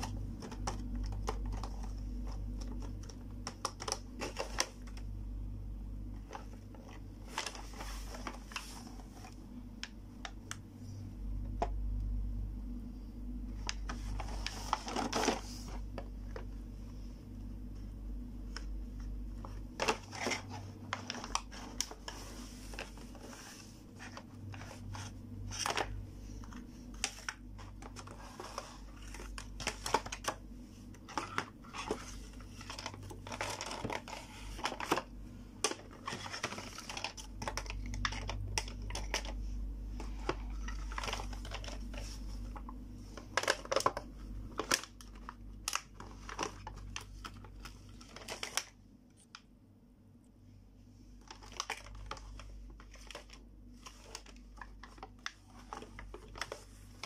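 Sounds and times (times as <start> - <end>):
plastic packaging crinkling: 0.0 - 5.2, 6.0 - 10.6, 13.5 - 16.5, 19.3 - 49.4, 51.2 - 57.0.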